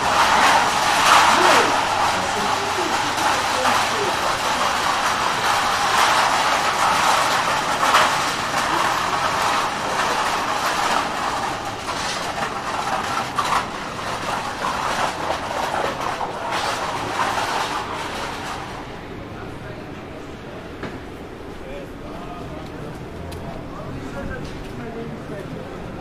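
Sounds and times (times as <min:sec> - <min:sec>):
rail vehicle running on tracks: 0:00.0 - 0:26.0
wheels clicking over rails: 0:00.0 - 0:26.0.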